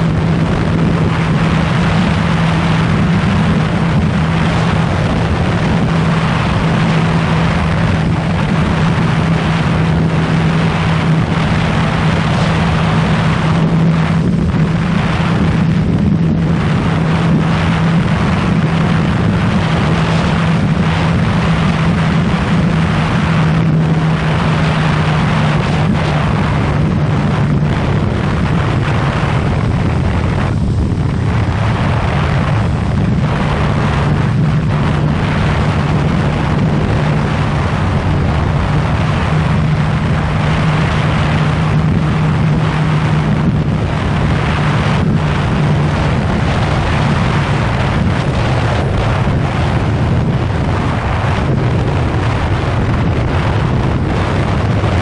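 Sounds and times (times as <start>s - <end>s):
motorcycle engine cruising: 0.0s - 55.0s
wind noise on microphone: 0.0s - 55.0s.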